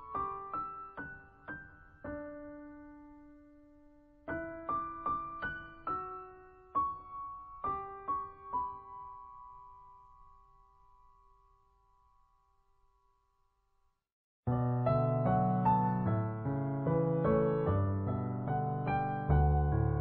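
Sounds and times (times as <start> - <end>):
solo piano melody: 0.0 - 13.2, 14.5 - 20.0.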